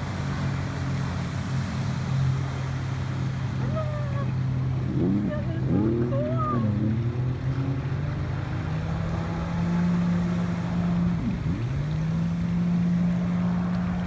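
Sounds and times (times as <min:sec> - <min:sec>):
water rushing: 0:00.0 - 0:14.0
watercraft engine running: 0:00.0 - 0:14.0.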